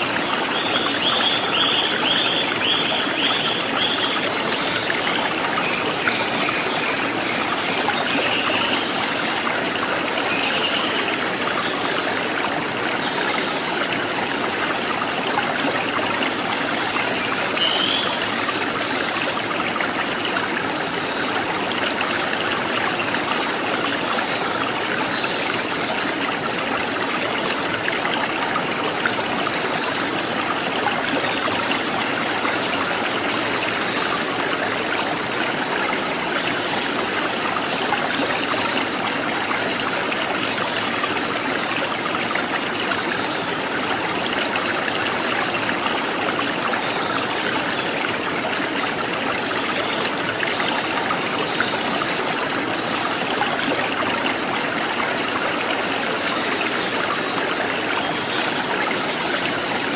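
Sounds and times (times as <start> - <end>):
stream splashing and trickling: 0.0 - 59.9.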